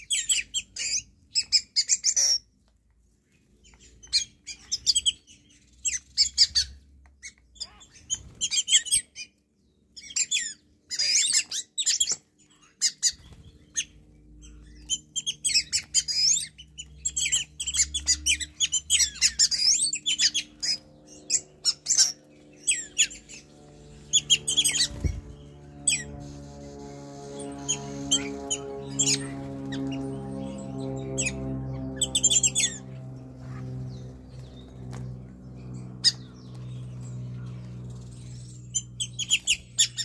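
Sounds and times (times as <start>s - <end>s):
starlings calling and chattering: 3.6s - 40.0s.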